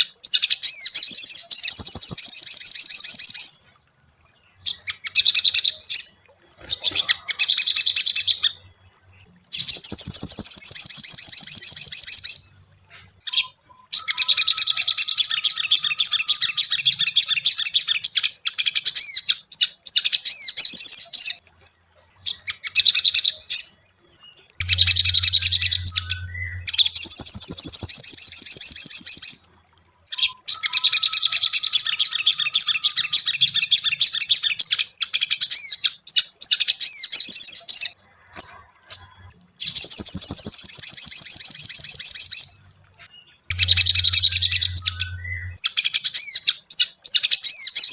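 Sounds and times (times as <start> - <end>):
bird chittering song: 0.0 - 47.9.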